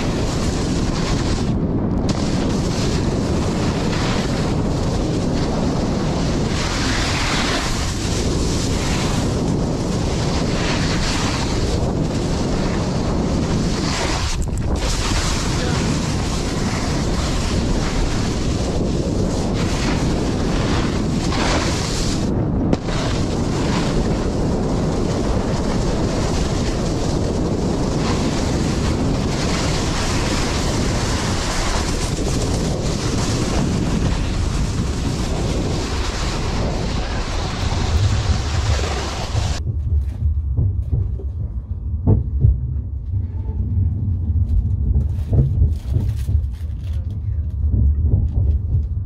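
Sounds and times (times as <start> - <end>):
wind rushing over microphone: 0.0 - 49.0.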